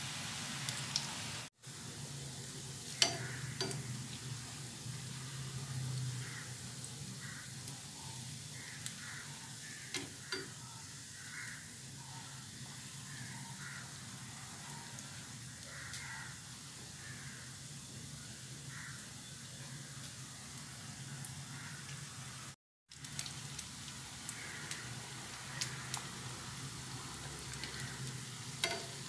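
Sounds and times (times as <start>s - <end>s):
food sizzling in oil: 0.0s - 29.0s.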